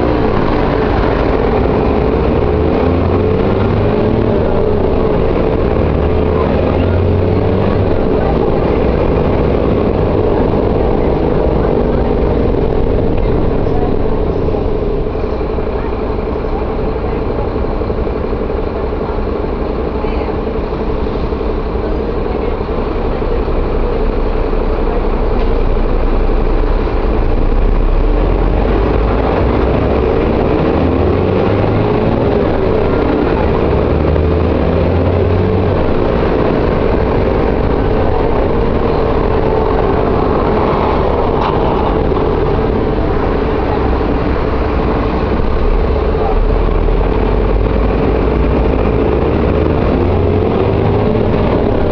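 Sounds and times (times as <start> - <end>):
bus engine running: 0.0 - 51.9.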